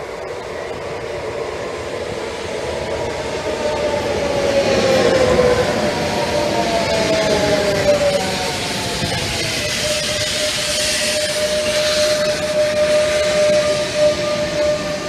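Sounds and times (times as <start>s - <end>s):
electric train rumble: 0.0s - 15.0s
train motor whine: 0.0s - 15.0s.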